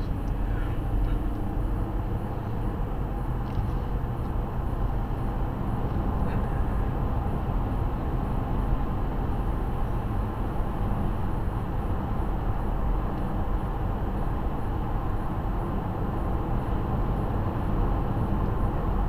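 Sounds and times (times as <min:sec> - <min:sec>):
car road noise and engine hum: 0:00.0 - 0:19.0.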